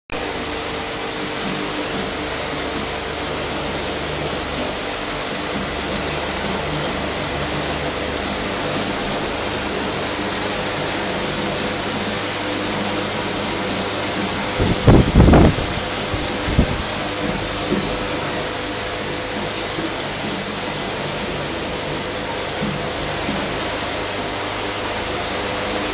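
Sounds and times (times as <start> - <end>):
faint pump hum: 0.2 - 25.9.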